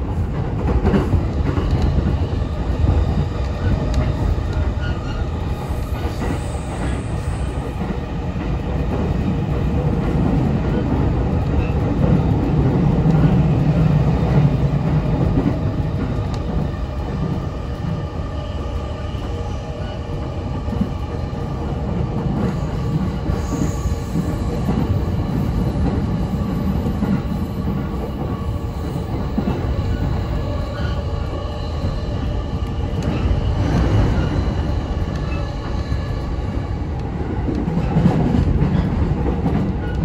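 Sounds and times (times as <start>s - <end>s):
train rumble from inside: 0.0s - 40.0s.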